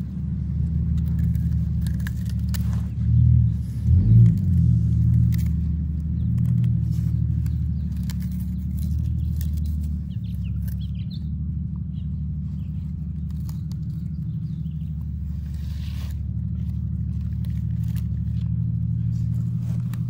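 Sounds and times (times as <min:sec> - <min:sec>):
rustling clicks of leaves: 0:00.0 - 0:20.0.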